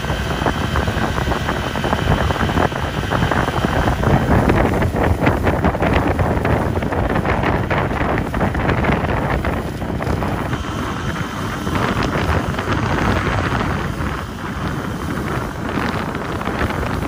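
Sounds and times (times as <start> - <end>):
boat motor: 0.0 - 17.0
water rushing: 0.0 - 17.0
wind buffeting microphone: 0.0 - 17.0.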